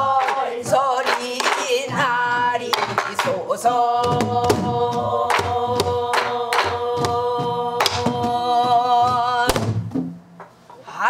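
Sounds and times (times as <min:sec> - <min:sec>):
barrel drum strokes: 0:00.6 - 0:10.6.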